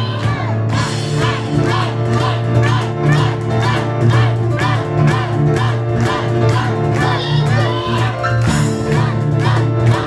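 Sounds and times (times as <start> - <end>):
cajon beat: 0.0 - 10.0
piano passage: 0.0 - 10.0.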